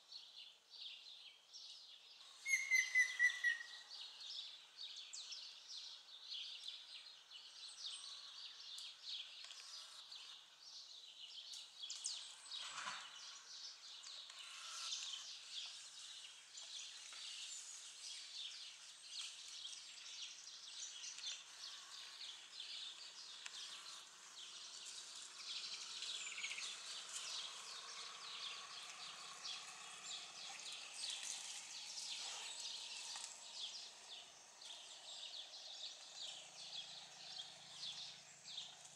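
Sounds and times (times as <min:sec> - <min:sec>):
birds chirping: 0:02.2 - 0:38.8
light outdoor hiss: 0:03.9 - 0:38.9.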